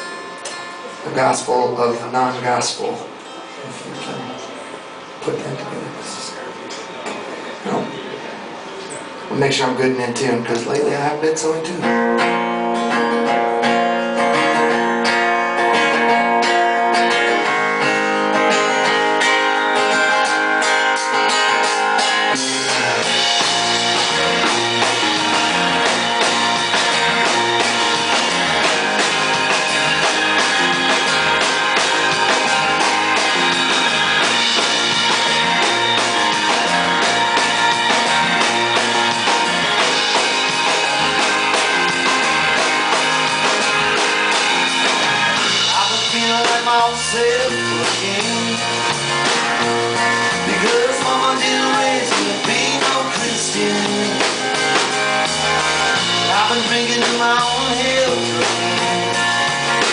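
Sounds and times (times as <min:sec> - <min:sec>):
drums: 0:00.0 - 0:59.9
bass guitar: 0:06.8 - 0:59.9
electric guitar playing: 0:11.5 - 0:59.9.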